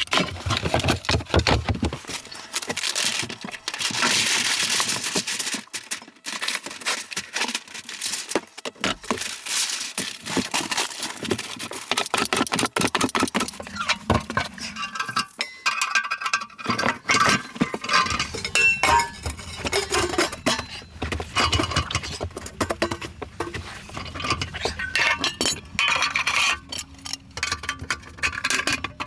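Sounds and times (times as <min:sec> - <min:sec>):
utensils clinking and clattering: 0:00.0 - 0:29.0.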